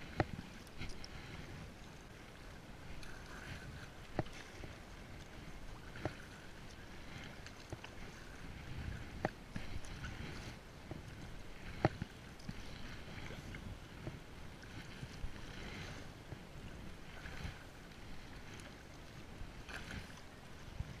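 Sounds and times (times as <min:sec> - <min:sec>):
paddle tapping kayak: 0:00.0 - 0:21.0
wind: 0:00.0 - 0:21.0.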